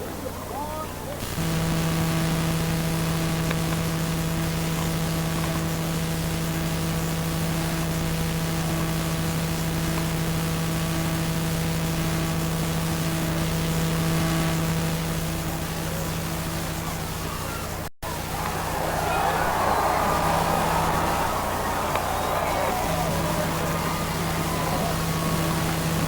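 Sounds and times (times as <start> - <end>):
constant hiss: 1.1 - 26.0
electrical hum: 1.2 - 26.0.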